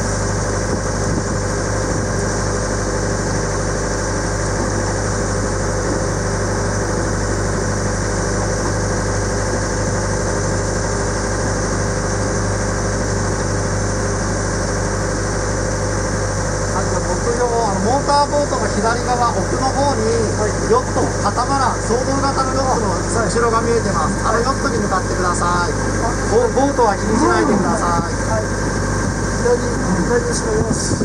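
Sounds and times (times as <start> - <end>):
motorboat engine humming: 0.0 - 31.0.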